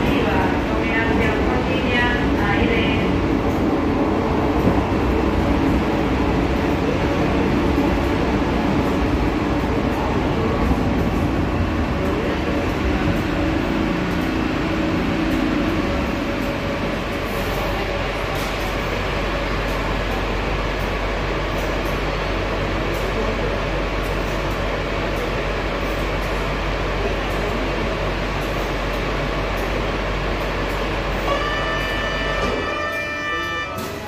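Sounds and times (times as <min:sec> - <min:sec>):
subway train wheels rumbling on rail: 0:00.0 - 0:34.0.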